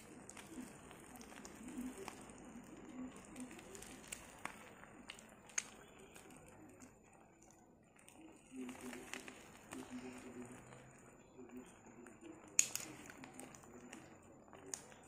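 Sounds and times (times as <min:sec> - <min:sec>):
bread frying in a pan: 0:00.0 - 0:15.0
sharp pops and crackles: 0:00.0 - 0:15.0.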